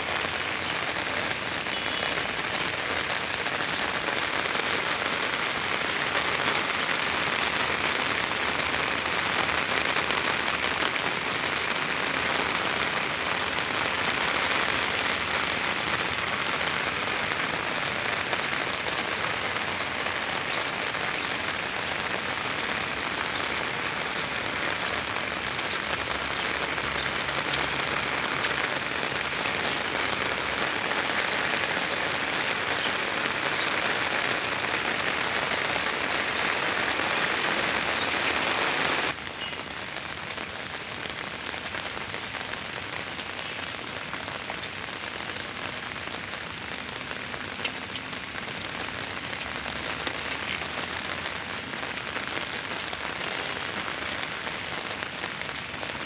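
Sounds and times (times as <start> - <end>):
rain on concrete and puddles: 0.0 - 56.0.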